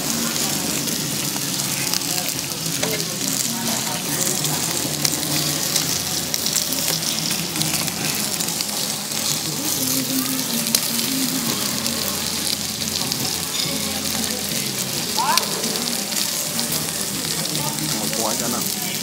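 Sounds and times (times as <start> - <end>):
food frying in hot oil: 0.0 - 19.0.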